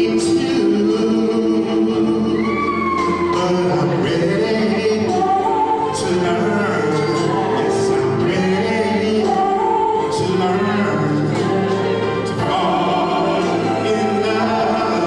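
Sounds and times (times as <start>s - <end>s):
man singing into microphone: 0.0s - 15.0s
recorded backing track: 0.0s - 15.0s.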